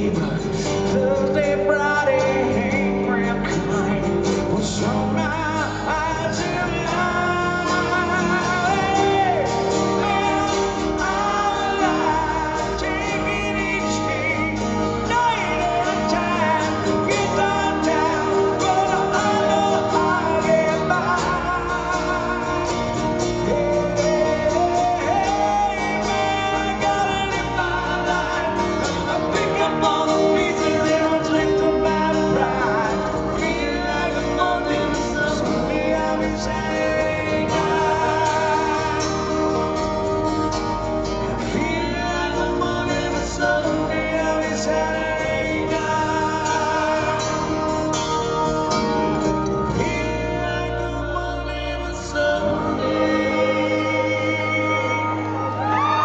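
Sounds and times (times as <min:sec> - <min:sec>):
acoustic guitars: 0:00.0 - 0:56.0
men singing together: 0:00.0 - 0:56.0.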